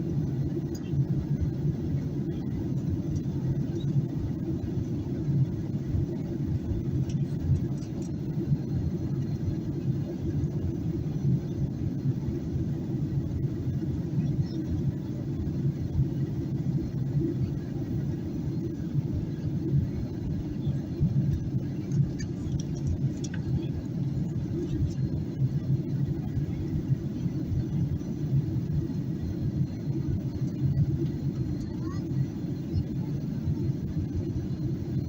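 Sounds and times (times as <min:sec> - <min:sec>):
airplane cabin drone: 0:00.0 - 0:35.0.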